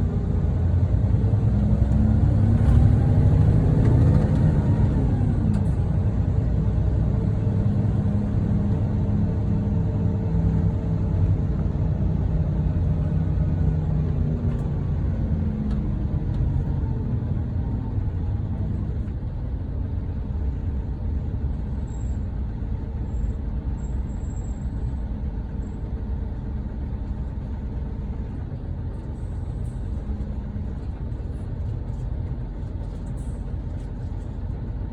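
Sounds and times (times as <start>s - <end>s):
diesel coach engine running: 0.0s - 34.9s.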